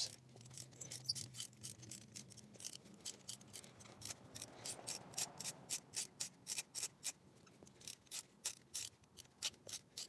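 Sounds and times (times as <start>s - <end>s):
socket ratchet clicking: 0.0s - 10.0s.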